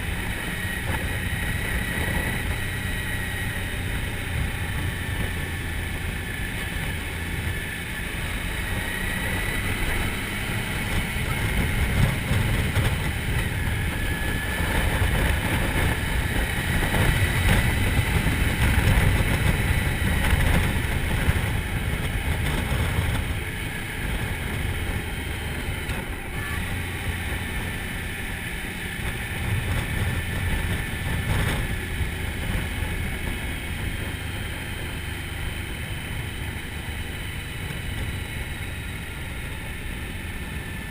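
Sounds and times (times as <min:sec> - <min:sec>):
motorcycle engine drone: 0:00.0 - 0:40.9
wind rumble on microphone: 0:00.0 - 0:40.9.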